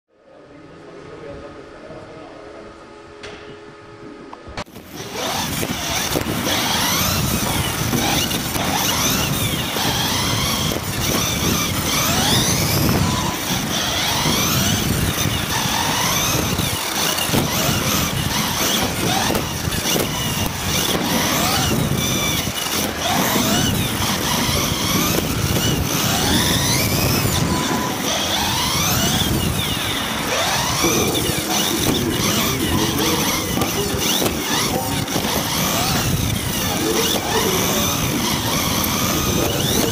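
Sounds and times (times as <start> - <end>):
electric motor whine: 4.7 - 39.9.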